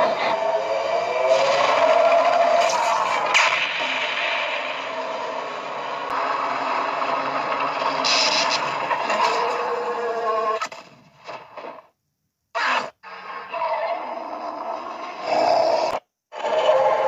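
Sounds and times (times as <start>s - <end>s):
harsh rasping monster sound: 0.0s - 10.8s, 12.6s - 17.0s.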